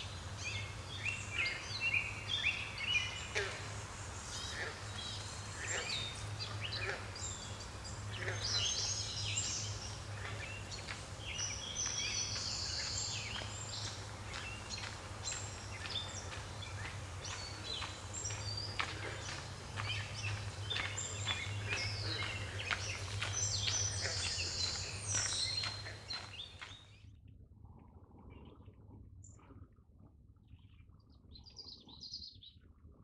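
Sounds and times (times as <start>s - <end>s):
steady low hum: 0.0s - 26.8s
birds chirping: 0.0s - 26.9s.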